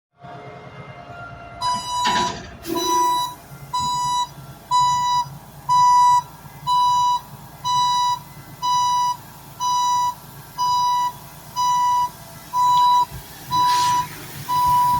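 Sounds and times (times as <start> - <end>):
backup alarm beeping: 1.6 - 14.9.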